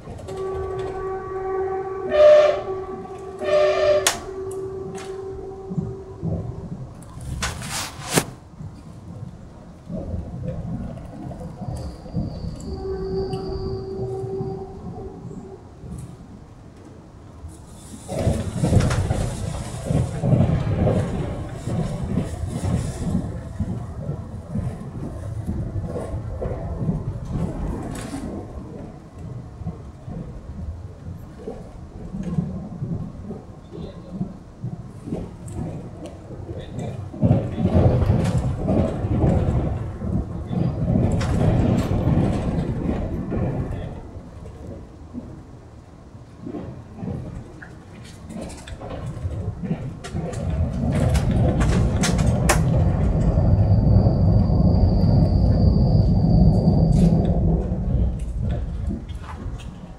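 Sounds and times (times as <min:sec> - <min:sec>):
electric train rumble with hiss: 0:00.0 - 0:59.9.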